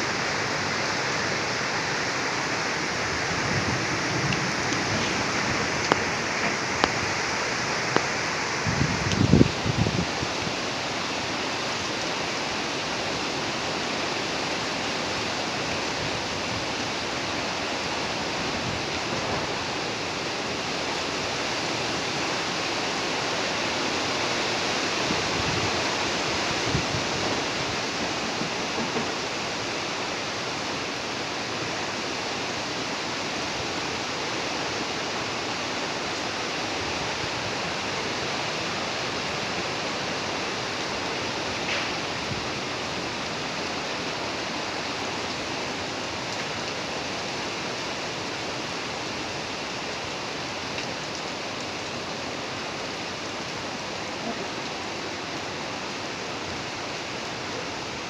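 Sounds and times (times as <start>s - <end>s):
storm rushing hiss: 0.0s - 50.6s.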